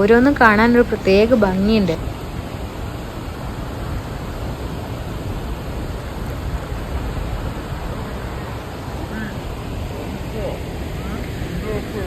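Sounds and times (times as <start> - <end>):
stream water rushing over waterfall: 0.0 - 12.0.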